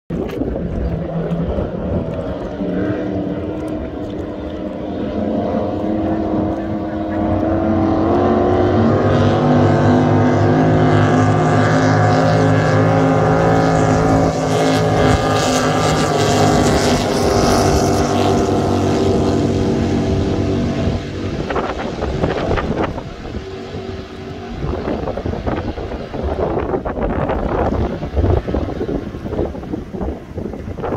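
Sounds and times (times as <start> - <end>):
powerboat engines droning: 0.1 - 30.9
wind on microphone: 0.1 - 30.9.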